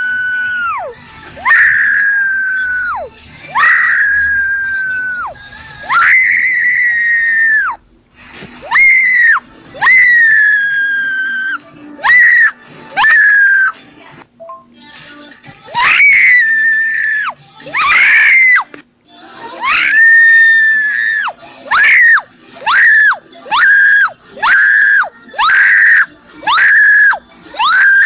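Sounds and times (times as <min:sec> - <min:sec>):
girl screaming: 0:00.0 - 0:07.8, 0:08.6 - 0:13.8, 0:15.8 - 0:18.6, 0:19.6 - 0:28.0.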